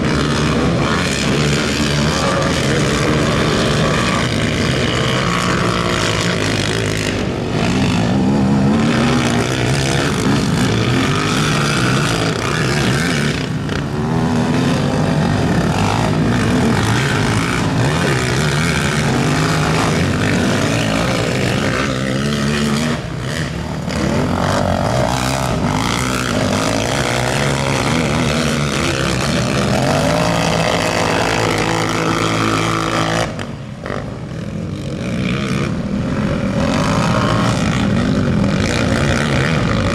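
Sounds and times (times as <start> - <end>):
quad engines revving: 0.0 - 39.9.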